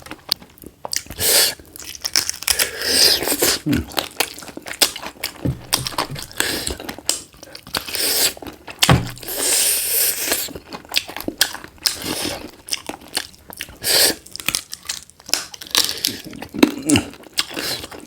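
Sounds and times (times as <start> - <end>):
close chewing and crunching: 0.0 - 18.0.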